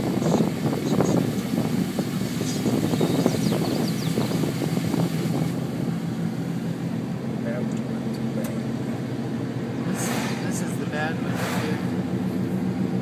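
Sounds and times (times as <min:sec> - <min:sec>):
engine hum: 0:00.0 - 0:13.0
tyres rumbling on wet road: 0:00.0 - 0:13.0.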